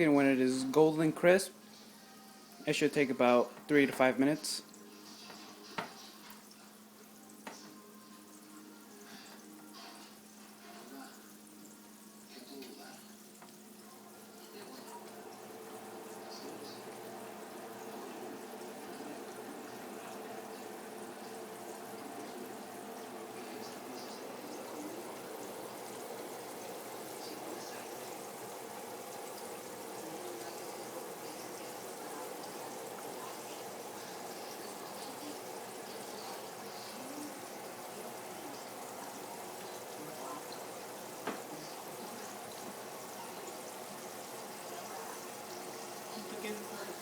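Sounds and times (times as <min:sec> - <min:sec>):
chicken frying in hot oil: 0:00.0 - 0:47.0.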